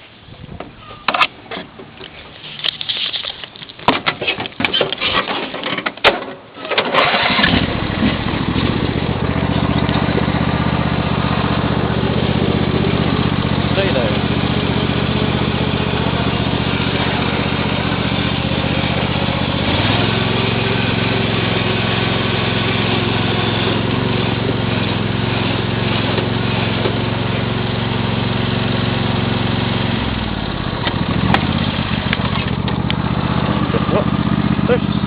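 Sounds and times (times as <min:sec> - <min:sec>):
lawn mower engine running: 0:06.6 - 0:35.0.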